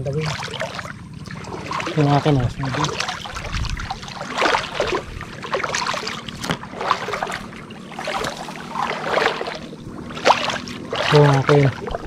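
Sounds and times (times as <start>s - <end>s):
water sloshing underfoot: 0.0s - 12.0s.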